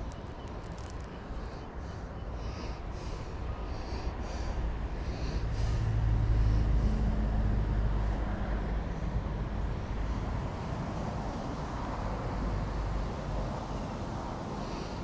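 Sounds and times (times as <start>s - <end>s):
passing engine hum: 0.0s - 15.0s.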